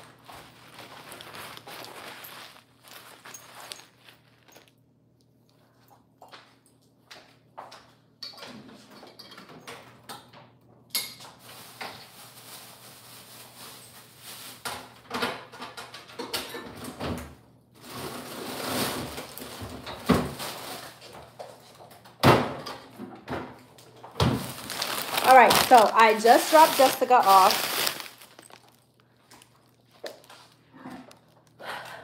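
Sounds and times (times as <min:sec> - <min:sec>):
items shifting and rustling: 0:00.0 - 0:04.9, 0:05.5 - 0:32.0.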